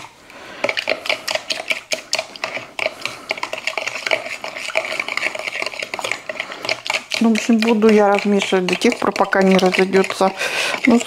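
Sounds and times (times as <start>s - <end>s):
whisk clicking against cup: 0.6s - 11.0s.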